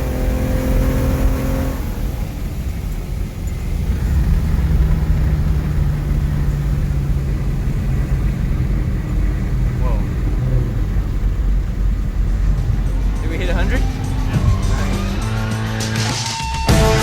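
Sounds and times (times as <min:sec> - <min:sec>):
car engine running hard: 0:00.0 - 0:17.0
road rumble: 0:00.0 - 0:17.0.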